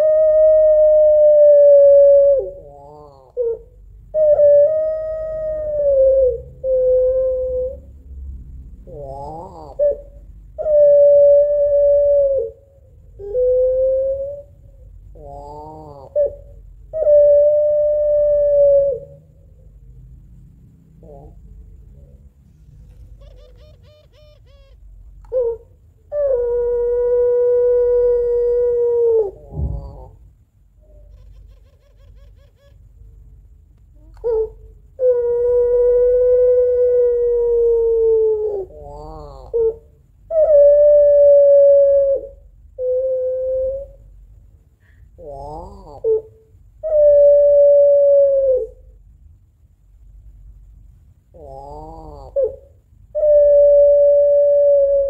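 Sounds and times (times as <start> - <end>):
dove wailing calls: 0.0 - 19.8, 20.9 - 33.1, 34.0 - 44.2, 44.8 - 49.0, 51.3 - 55.0.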